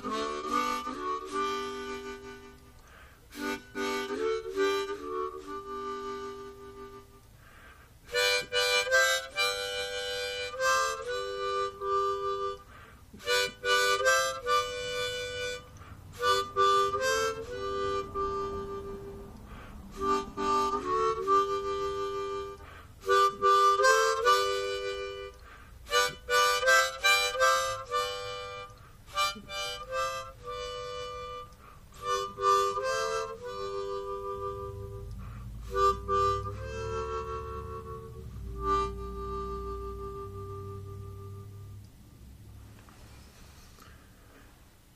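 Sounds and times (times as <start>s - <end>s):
harmonica tune: 0.0s - 41.9s.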